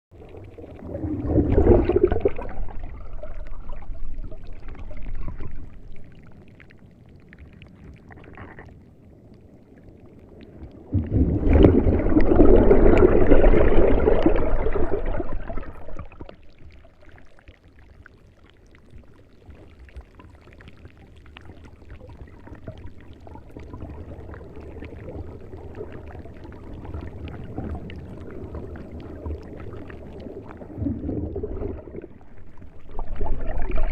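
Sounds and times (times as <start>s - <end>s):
water surging and gurgling: 0.1s - 33.9s.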